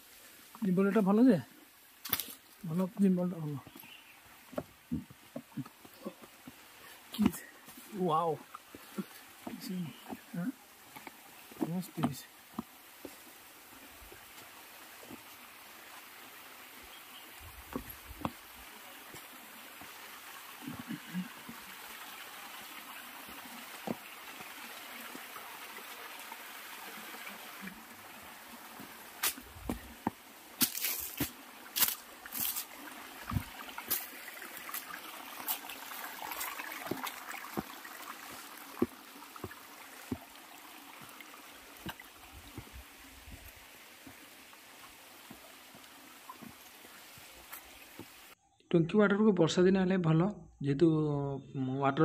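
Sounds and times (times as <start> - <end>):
water trickling down rocks: 0.1 - 48.4.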